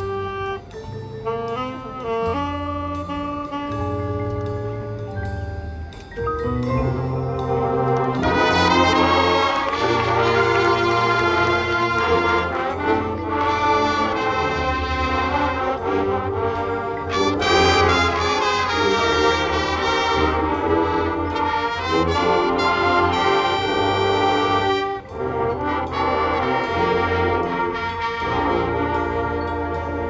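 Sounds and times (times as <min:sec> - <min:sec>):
brass section playing chords: 0:00.0 - 0:05.1, 0:06.7 - 0:30.0
marching percussion: 0:00.0 - 0:30.0.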